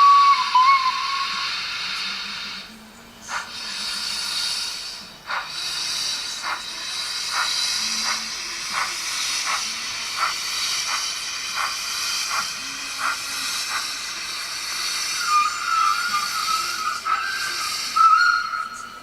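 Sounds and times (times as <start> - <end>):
steam hiss: 0.0 - 19.0
locomotive exhaust chuffs: 3.3 - 19.0.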